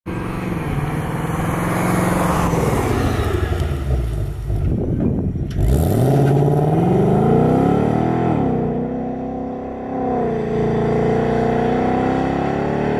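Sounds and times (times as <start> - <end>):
car engine accelerating: 0.1 - 12.9.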